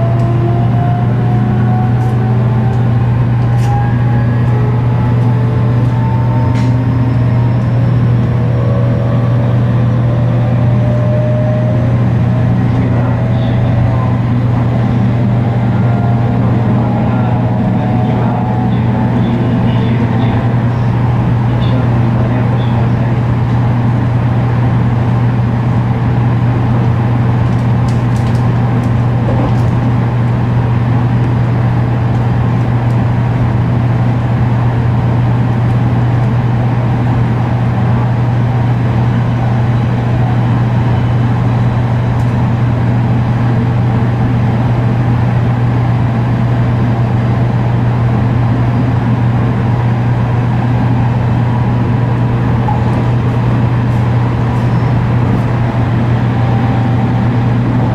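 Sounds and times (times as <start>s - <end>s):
electric train motor drone: 0.0s - 57.9s
rail noise: 0.0s - 57.9s.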